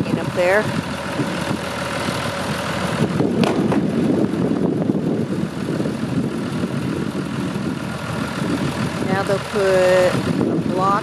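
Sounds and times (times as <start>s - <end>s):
travel lift engine running: 0.0s - 11.0s.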